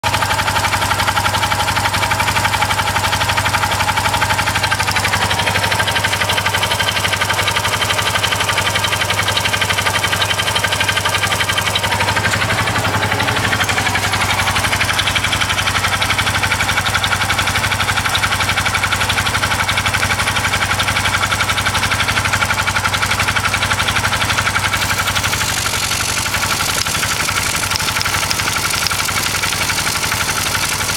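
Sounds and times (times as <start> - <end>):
engine idling with rapid pulsing: 0.0 - 30.9.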